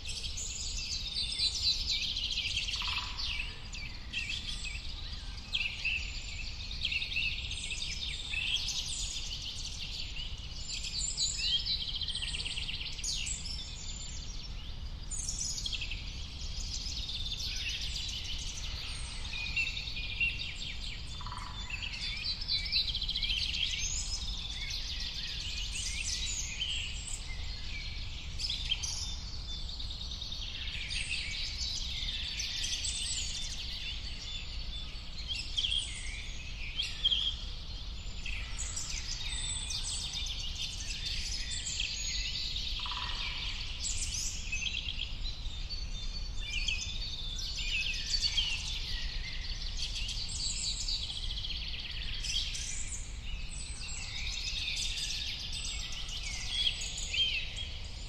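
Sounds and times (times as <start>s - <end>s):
birds chirping and singing: 0.2s - 58.0s.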